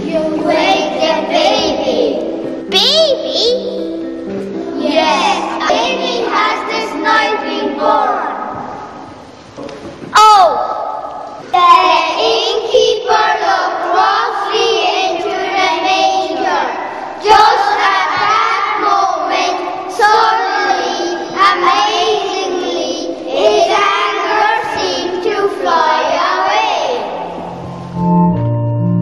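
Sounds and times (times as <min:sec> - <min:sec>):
children singing together: 0:00.0 - 0:02.5, 0:04.6 - 0:09.2, 0:11.5 - 0:27.6.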